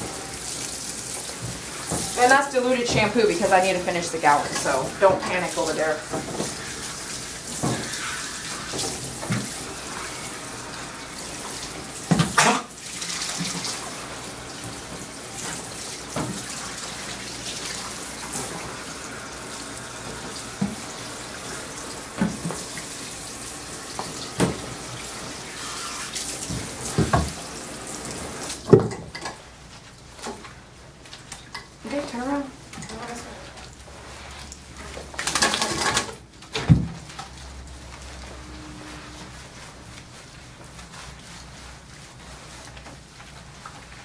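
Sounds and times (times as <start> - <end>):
hose spraying water: 0.0 - 44.0.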